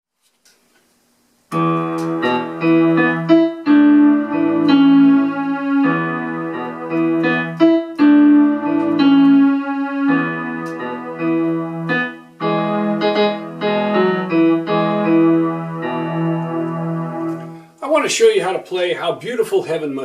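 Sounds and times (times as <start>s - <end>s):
electronic keyboard chords: 1.5s - 17.8s.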